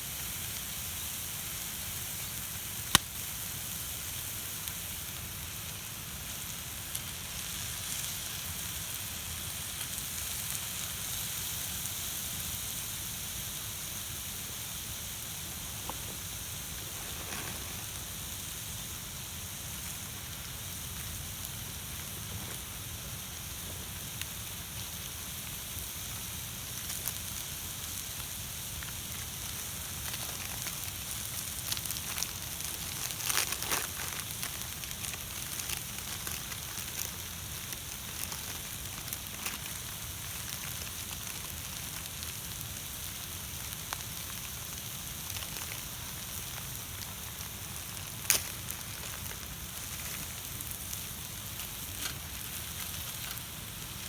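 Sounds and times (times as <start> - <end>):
steady hiss: 0.0 - 54.0
campfire crackling: 0.1 - 54.0.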